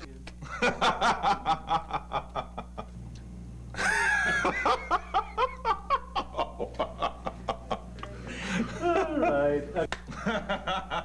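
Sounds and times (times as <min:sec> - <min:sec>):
men laughing: 0:00.4 - 0:03.0, 0:03.8 - 0:11.0.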